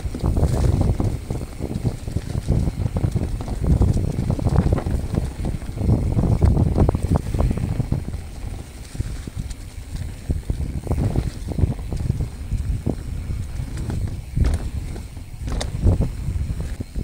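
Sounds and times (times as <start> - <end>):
bike rattling and knocking: 0.0 - 17.0
bike tyres rumbling on dirt: 0.0 - 17.0
wind buffeting microphone: 0.0 - 17.0.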